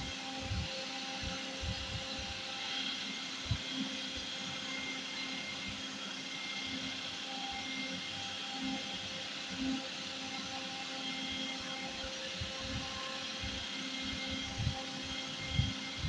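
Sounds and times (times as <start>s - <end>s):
steady mechanical whir: 0.0s - 16.0s.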